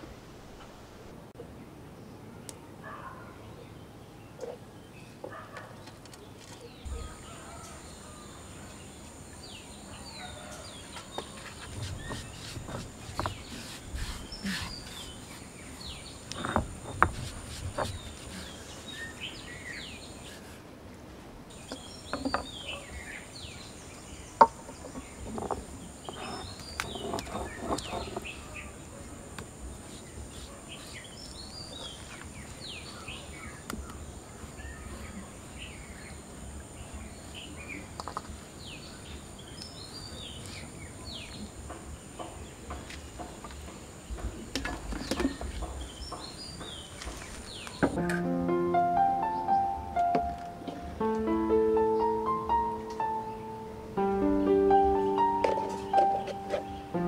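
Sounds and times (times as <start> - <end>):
small birds chirping: 2.0 - 20.5, 21.5 - 48.0, 49.0 - 57.0.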